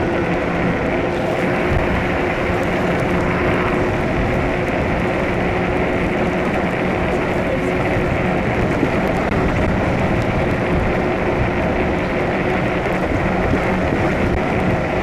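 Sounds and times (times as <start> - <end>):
tyres on wet road: 0.0 - 15.0
wind rushing: 0.0 - 15.0.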